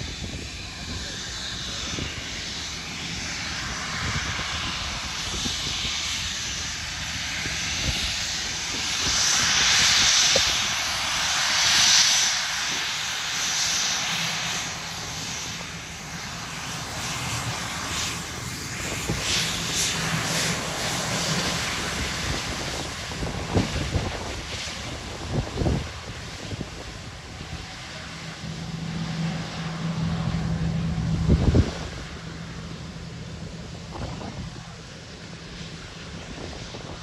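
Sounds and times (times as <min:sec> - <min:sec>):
jet engines rushing: 0:00.0 - 0:37.0.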